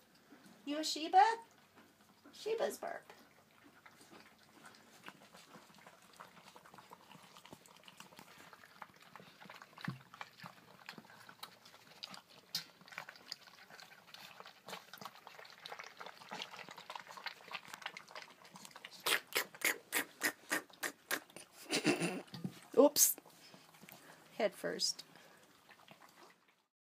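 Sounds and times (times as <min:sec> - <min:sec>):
puppies lapping wet food: 0:00.0 - 0:26.7.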